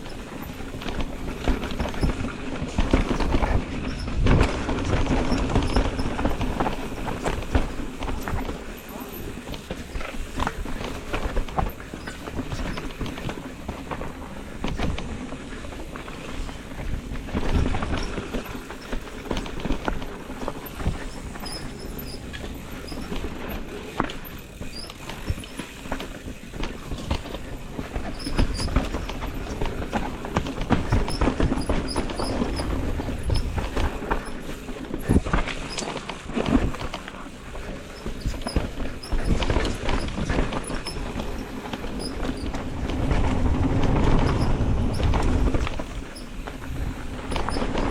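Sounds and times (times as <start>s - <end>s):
bike knocking and clattering: 0.0s - 47.9s
bike tyres on dirt and rock: 0.0s - 47.9s.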